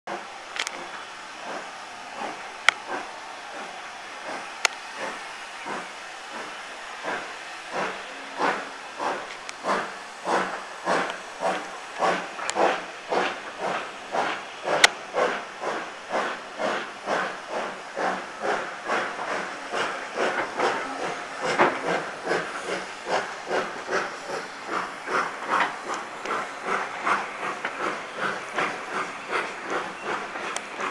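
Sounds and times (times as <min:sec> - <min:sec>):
steam hissing: 0:00.1 - 0:30.9
steam locomotive exhaust chuffing: 0:00.1 - 0:30.9.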